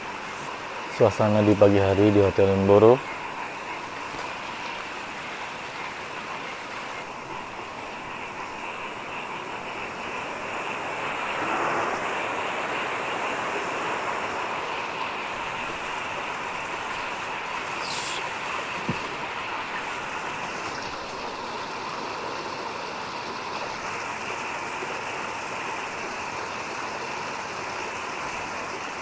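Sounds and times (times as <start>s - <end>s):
fast-flowing river rushing: 3.0s - 27.7s.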